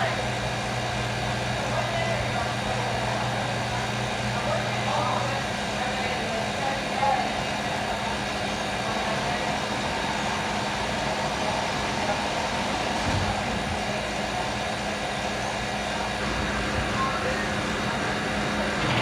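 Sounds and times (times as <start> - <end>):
kitchen machine humming: 0.0 - 19.0.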